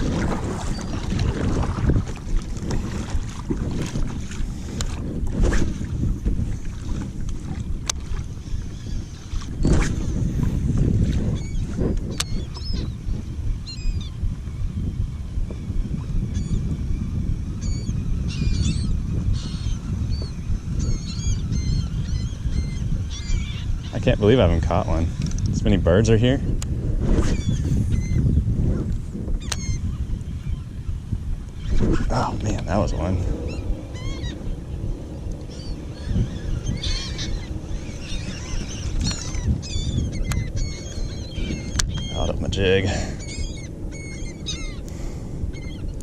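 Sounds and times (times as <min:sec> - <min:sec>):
seabirds calling: 0:00.0 - 0:05.0, 0:06.4 - 0:10.2, 0:11.2 - 0:25.4, 0:27.3 - 0:28.4, 0:29.3 - 0:46.0
steady low rumble: 0:00.0 - 0:46.0.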